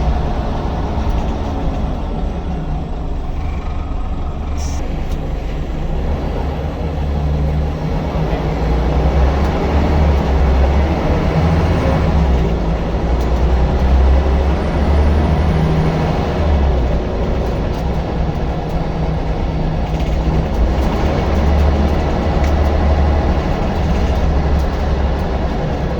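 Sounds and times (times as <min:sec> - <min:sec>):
bus diesel engine droning: 0:00.0 - 0:25.9
road noise: 0:00.0 - 0:25.9.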